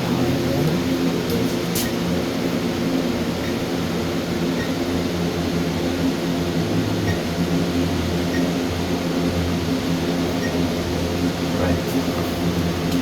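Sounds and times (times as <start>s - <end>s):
ventilation machinery hum: 0.0s - 13.0s.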